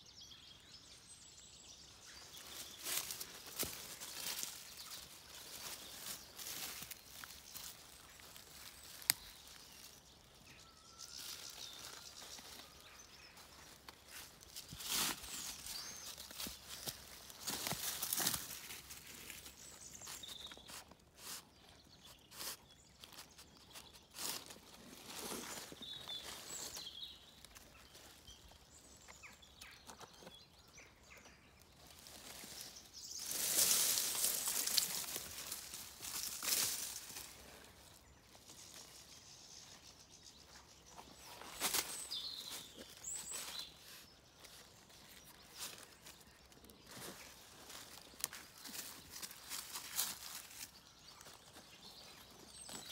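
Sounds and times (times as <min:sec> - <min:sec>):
faint birdsong chirps and whistles: 0:00.0 - 0:52.9
rustling in dry leaves: 0:01.7 - 0:52.9.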